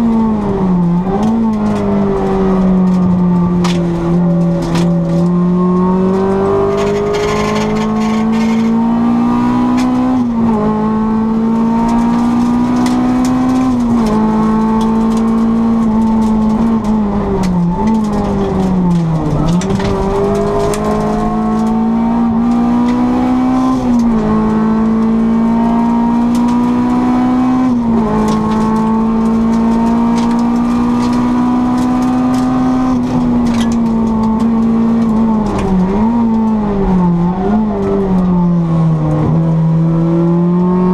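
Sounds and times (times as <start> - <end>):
car engine revving with gear changes: 0.0 - 40.9.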